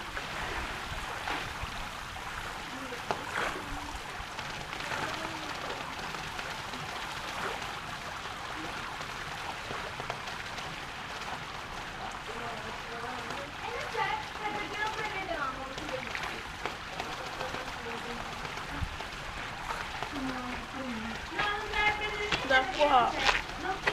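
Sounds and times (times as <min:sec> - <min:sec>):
pool water lapping: 0:00.0 - 0:23.9.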